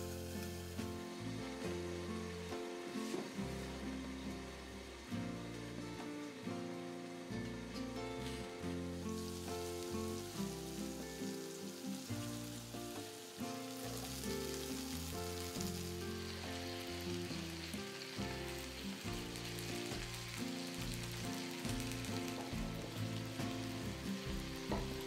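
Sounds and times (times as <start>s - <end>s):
background music: 0.0s - 25.0s
skewers sizzling in a frying pan: 0.0s - 25.0s.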